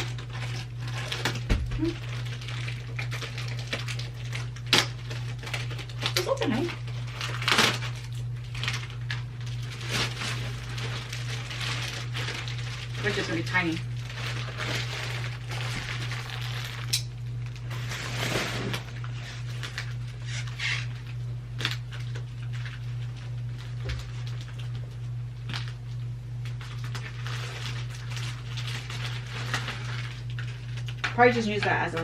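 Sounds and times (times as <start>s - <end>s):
packaging crinkling: 0.0s - 32.0s
steady low hum: 0.0s - 32.0s.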